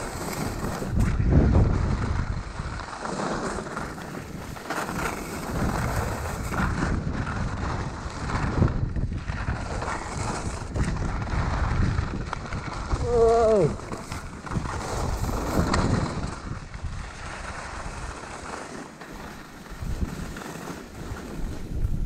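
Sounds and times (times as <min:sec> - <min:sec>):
wind buffeting microphone: 0:00.0 - 0:03.0, 0:03.8 - 0:18.5, 0:19.6 - 0:22.0
skis scraping over snow: 0:00.0 - 0:22.0.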